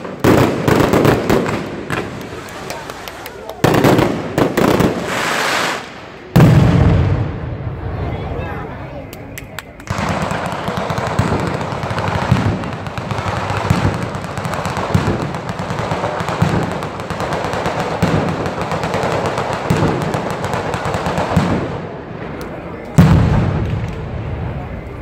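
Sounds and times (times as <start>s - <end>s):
heavy firecracker booms: 0.0s - 2.2s, 3.6s - 8.1s, 9.9s - 22.3s, 23.0s - 24.6s
firecrackers crackling rapidly: 0.0s - 7.4s, 9.0s - 25.0s.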